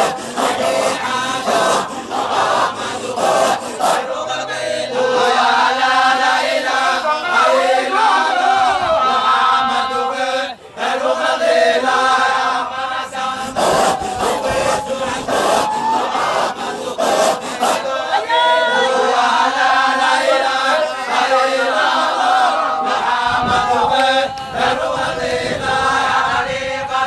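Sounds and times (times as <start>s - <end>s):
group of voices chanting: 0.0s - 27.0s.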